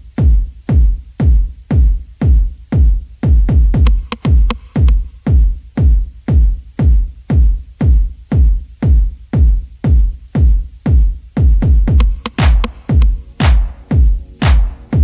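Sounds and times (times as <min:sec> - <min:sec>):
electronic music with kick drum: 0:00.0 - 0:15.0.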